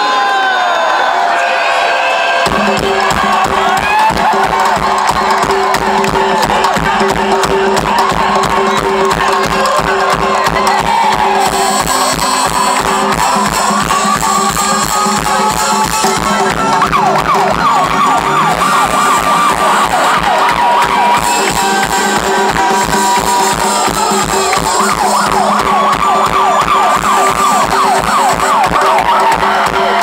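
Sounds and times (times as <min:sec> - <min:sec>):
siren sound effect wailing: 0:01.3 - 0:30.0
fast drum beat: 0:02.4 - 0:30.0
live band music over speakers: 0:02.4 - 0:30.0.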